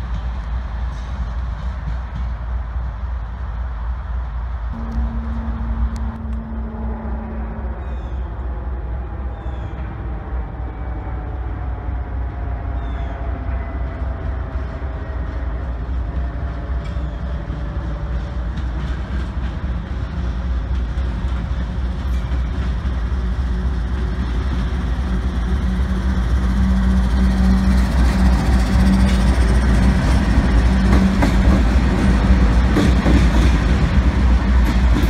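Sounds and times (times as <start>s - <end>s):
diesel locomotives rumbling: 0.0s - 35.0s.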